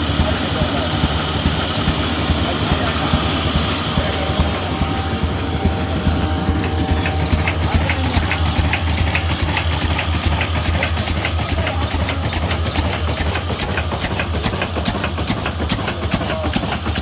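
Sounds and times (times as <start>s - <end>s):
diesel engine idling with clatter: 0.0s - 17.0s.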